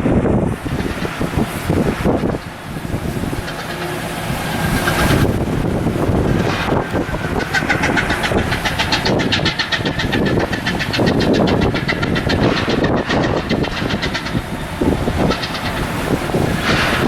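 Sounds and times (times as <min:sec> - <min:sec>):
machinery clattering rapidly: 0:00.0 - 0:17.0.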